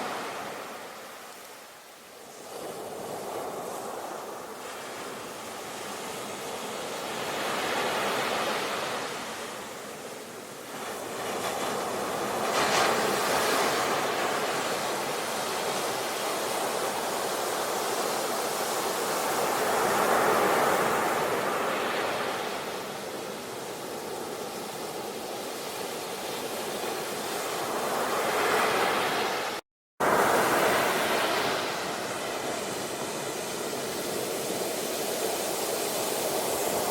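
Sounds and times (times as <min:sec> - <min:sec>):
ocean waves washing on shore: 0:00.0 - 0:36.9.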